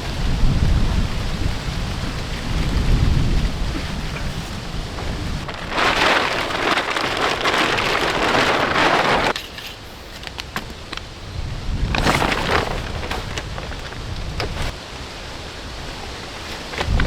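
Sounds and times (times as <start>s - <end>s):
heavy rain hissing: 0.0s - 9.3s, 10.0s - 17.0s.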